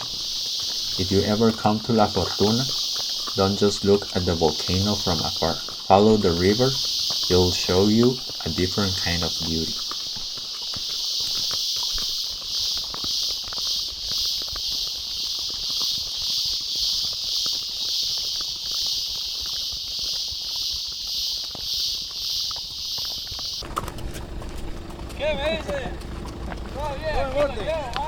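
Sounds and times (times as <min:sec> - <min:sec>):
horse hooves clip-clopping: 0:00.0 - 0:28.0
insect chorus buzzing: 0:00.0 - 0:28.0.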